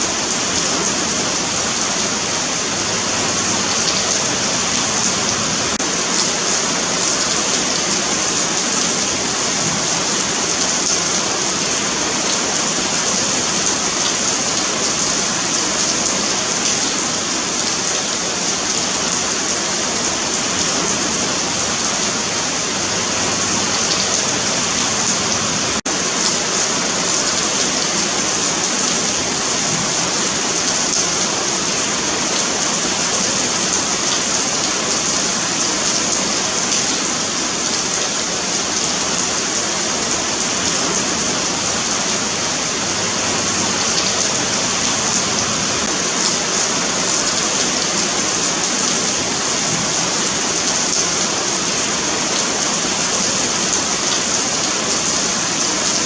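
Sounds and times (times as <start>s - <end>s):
rain on pavement: 0.0s - 56.0s.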